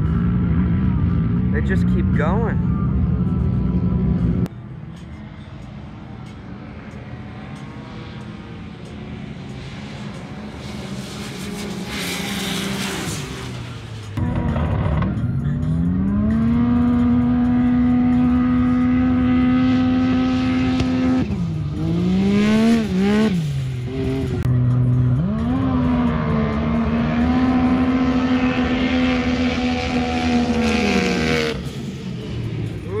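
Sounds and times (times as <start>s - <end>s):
utility vehicle engine revving: 0.0s - 33.0s.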